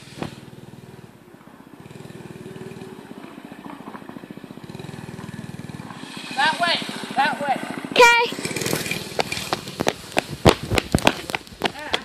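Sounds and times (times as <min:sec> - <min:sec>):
small motorbike engine running: 0:01.8 - 0:11.9.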